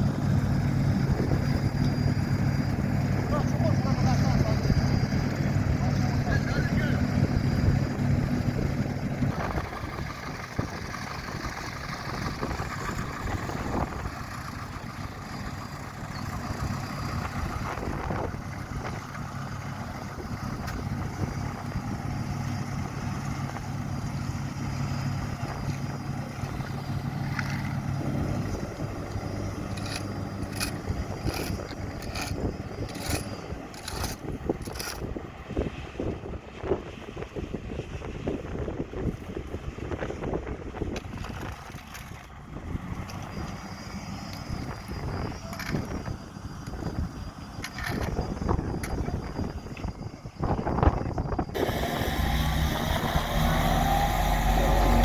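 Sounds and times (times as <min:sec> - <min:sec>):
paving machine diesel engine: 0:00.0 - 0:55.0.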